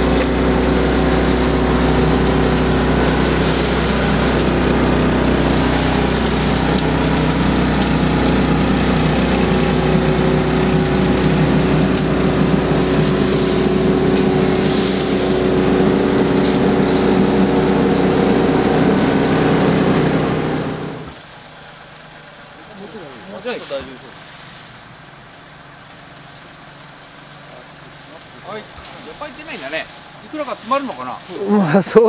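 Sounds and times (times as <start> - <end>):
vacuum sweeper suction running: 0.0 - 21.4, 24.8 - 32.0.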